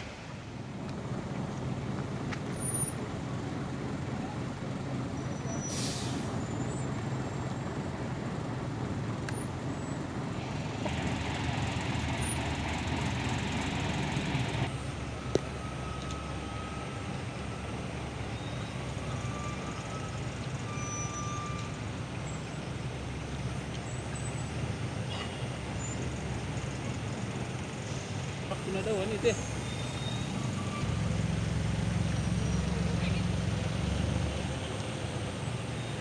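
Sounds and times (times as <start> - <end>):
truck engines idling: 0.0 - 36.0.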